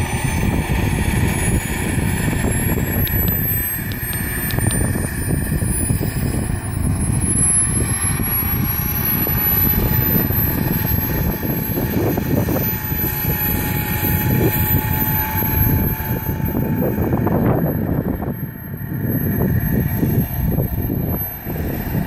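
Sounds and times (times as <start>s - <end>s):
gas turbine whine: 0.0s - 22.0s
steady rushing noise: 0.0s - 22.0s.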